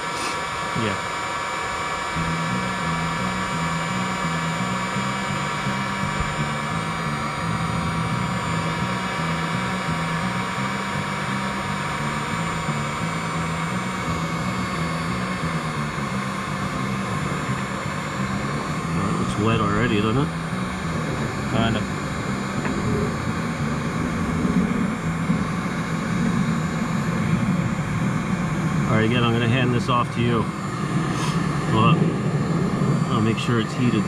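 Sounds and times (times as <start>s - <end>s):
heat gun fan hum and whine: 0.0s - 34.0s.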